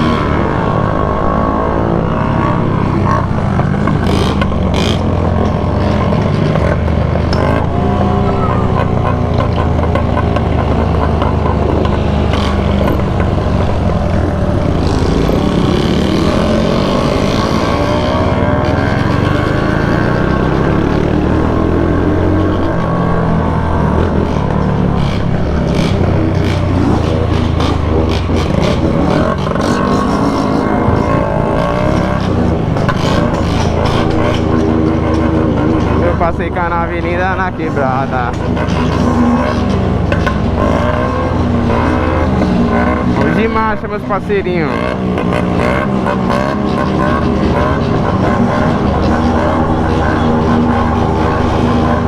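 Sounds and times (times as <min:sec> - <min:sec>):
motorcycle engines running: 0:00.0 - 0:52.0
road noise: 0:00.0 - 0:52.0.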